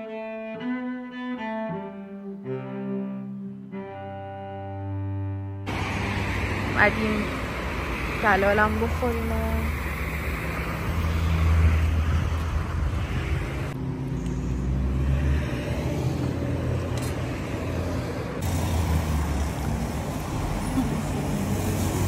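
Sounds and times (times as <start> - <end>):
road traffic rumble: 3.5 - 22.0.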